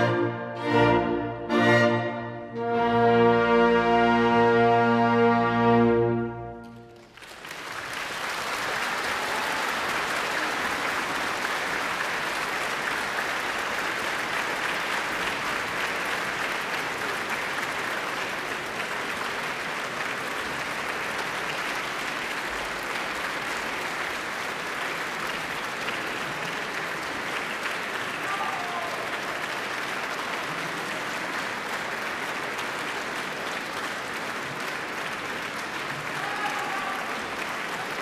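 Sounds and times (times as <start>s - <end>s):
audience applauding: 6.5s - 38.0s.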